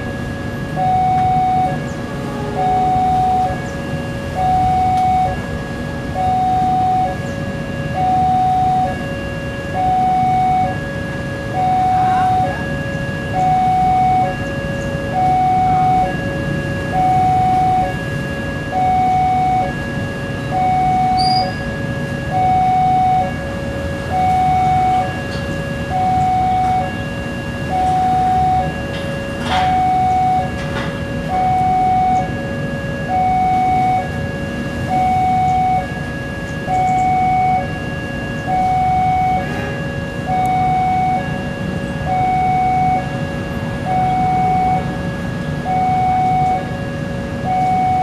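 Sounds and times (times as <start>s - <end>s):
level crossing two-tone alarm: 0.0s - 48.0s.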